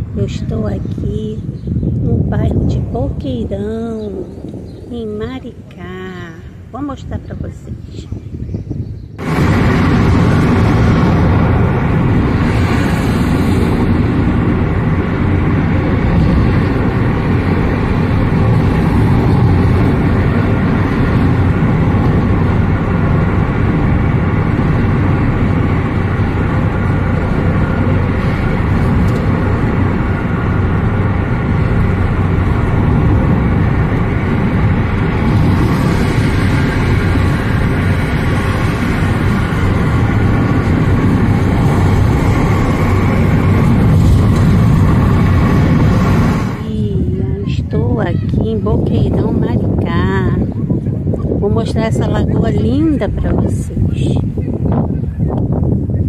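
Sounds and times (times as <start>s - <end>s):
car engine and road noise: 0.0s - 4.9s, 8.4s - 56.0s.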